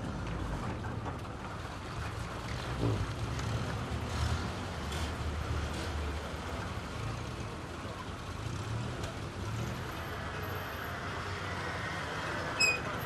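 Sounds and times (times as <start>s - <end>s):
outdoor noise: 0.0s - 13.0s
vehicle engines rumbling: 0.0s - 13.0s.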